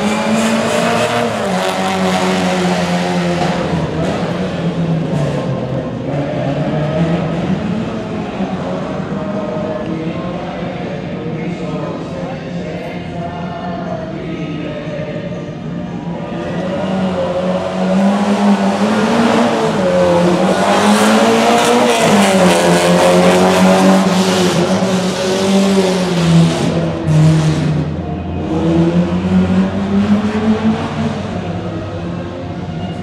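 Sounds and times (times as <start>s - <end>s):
rally car engine revving: 0.0s - 13.2s, 15.2s - 33.0s.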